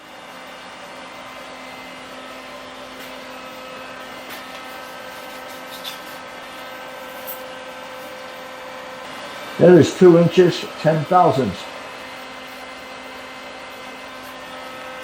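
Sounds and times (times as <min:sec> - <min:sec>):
electric motor hum: 0:00.0 - 0:15.0.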